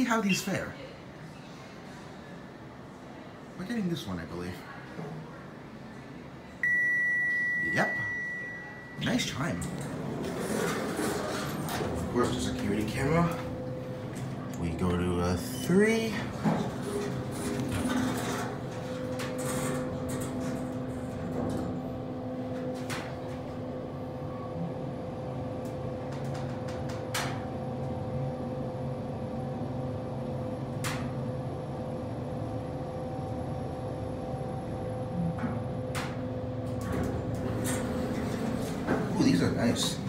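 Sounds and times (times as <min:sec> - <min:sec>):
elevator hum and whine: 0:00.0 - 0:40.0.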